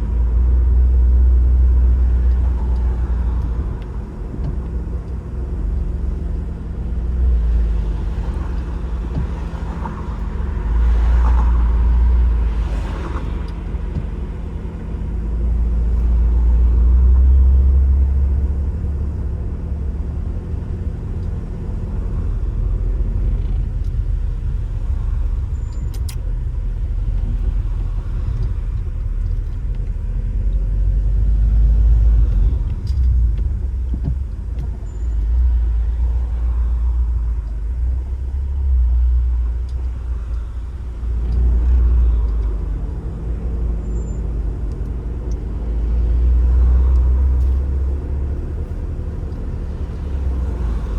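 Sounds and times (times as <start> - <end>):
engine hum: 0.0 - 50.9
low rumble of road noise: 0.0 - 50.9.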